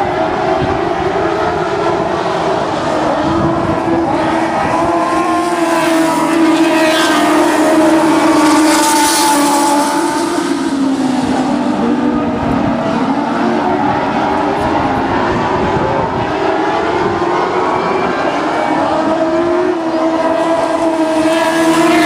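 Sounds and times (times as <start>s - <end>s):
sprint car engines racing: 0.0s - 22.0s.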